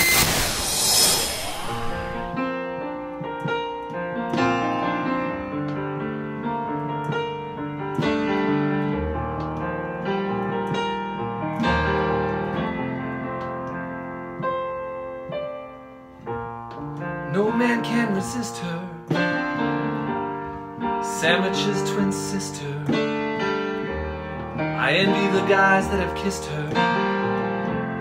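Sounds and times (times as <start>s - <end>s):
solo piano chords: 1.5s - 28.0s.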